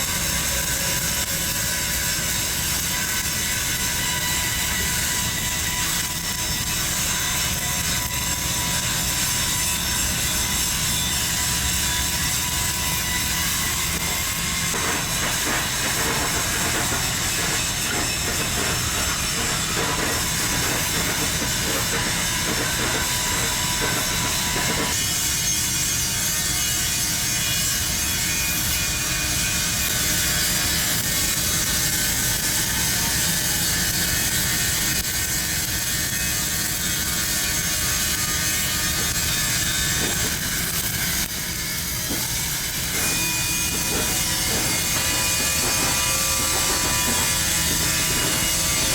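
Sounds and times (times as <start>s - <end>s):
welding arc crackling and hissing: 0.2s - 28.0s, 28.6s - 48.9s.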